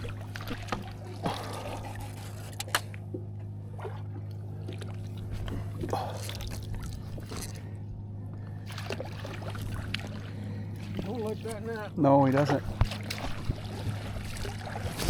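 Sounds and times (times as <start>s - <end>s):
water splashing against boat hull: 0.0s - 7.7s, 8.6s - 15.0s
steady low hum: 0.0s - 15.0s.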